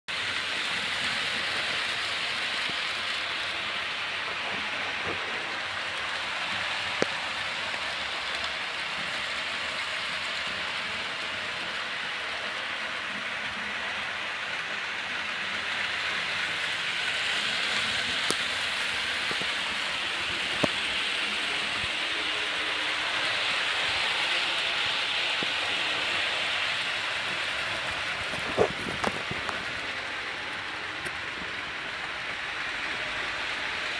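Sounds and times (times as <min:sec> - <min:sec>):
model train rushing: 0:00.1 - 0:33.9.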